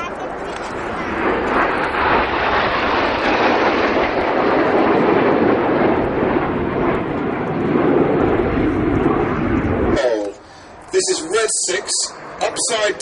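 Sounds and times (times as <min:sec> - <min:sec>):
jets flying overhead: 0:00.0 - 0:13.0.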